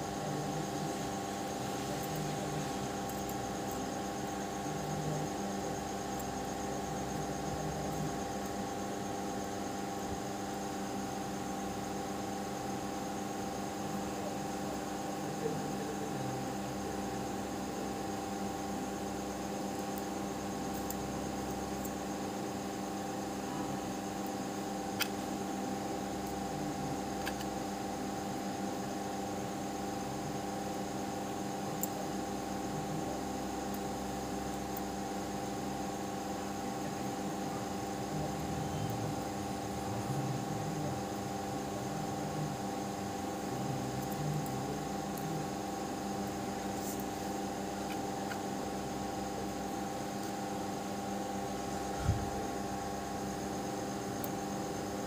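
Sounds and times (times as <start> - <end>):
constant hiss: 0.0 - 55.0.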